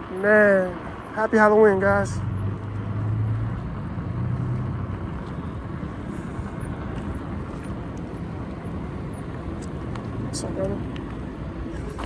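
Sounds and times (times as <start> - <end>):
road noise from bike: 0.0 - 12.0.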